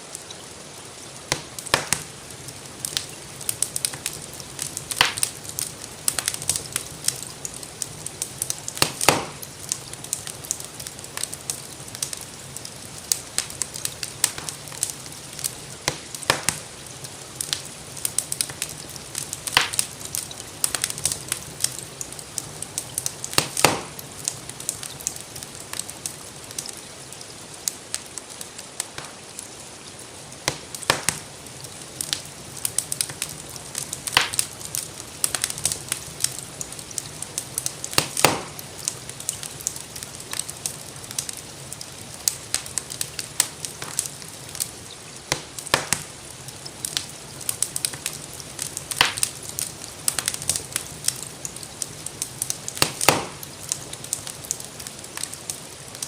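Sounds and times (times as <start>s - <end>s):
gentle rain: 0.0s - 56.0s
wood fire crackling: 0.0s - 56.0s.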